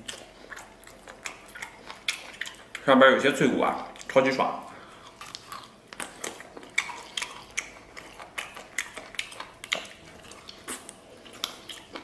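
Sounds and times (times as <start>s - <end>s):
person chewing meat: 0.0s - 12.0s.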